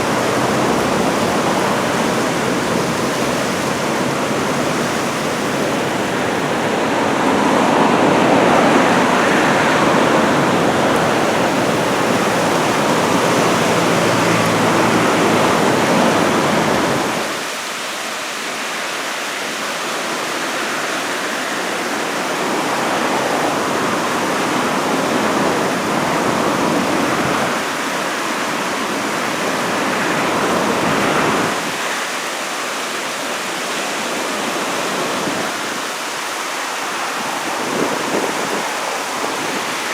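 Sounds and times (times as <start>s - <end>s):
heavy surf breaking: 0.0s - 17.6s, 20.2s - 39.9s.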